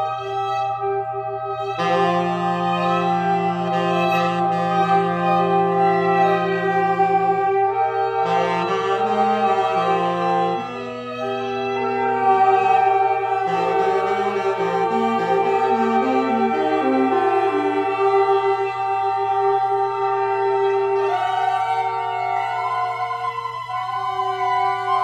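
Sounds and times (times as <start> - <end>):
free jazz reed ensemble: 0.0 - 25.0.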